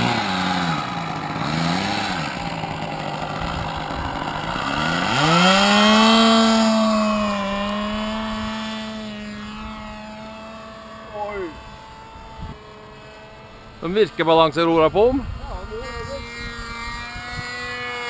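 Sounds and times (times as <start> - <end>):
model airplane engine revving: 0.0 - 18.0.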